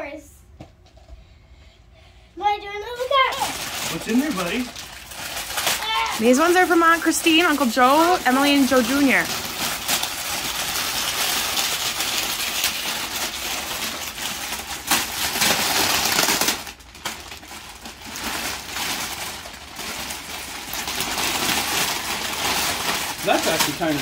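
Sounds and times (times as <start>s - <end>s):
wrapping paper tearing and crinkling: 2.8s - 24.0s.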